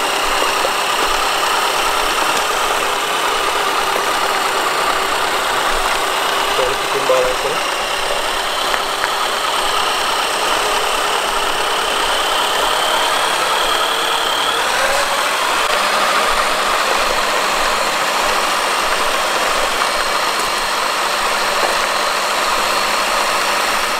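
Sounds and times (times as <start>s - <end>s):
high electric motor whine: 0.0s - 23.9s
tyres rolling on asphalt: 0.0s - 23.9s.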